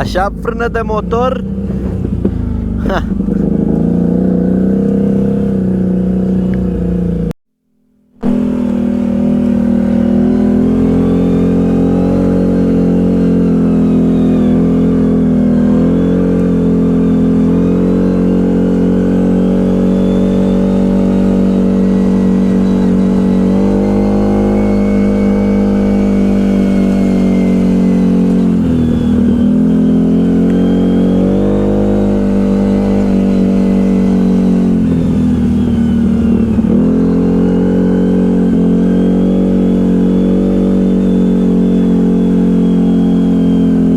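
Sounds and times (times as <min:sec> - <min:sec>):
atv engine under throttle: 0:00.0 - 0:07.4, 0:08.1 - 0:43.9.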